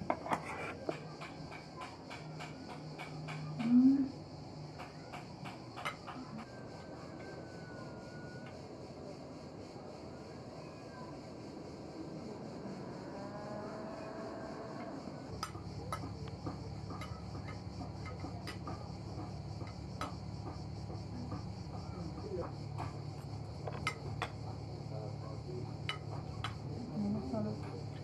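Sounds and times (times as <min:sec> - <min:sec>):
insect chirring: 0:00.0 - 0:28.0.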